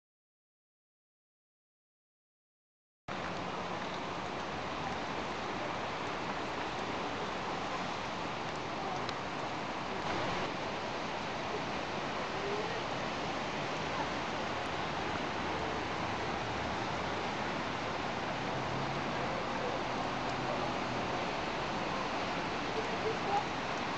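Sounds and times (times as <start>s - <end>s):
heavy rain on roofs and street: 3.1s - 23.9s.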